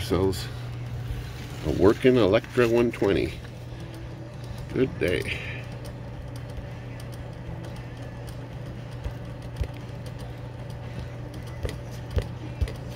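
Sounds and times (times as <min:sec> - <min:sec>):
typewriter motor humming: 0:00.7 - 0:12.9.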